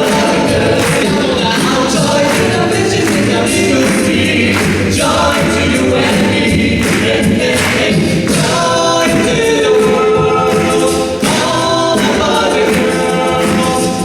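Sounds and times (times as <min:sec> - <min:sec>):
a cappella group singing harmony: 0:00.0 - 0:14.0.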